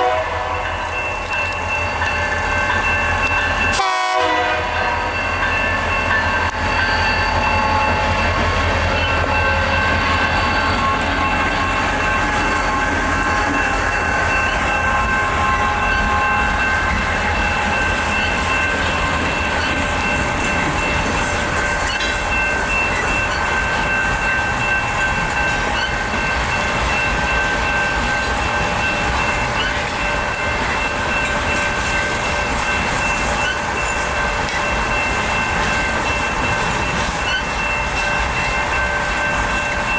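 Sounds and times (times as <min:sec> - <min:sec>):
crossing bells ringing: 0:00.0 - 0:39.9
train wheels clattering on rails: 0:00.0 - 0:39.9.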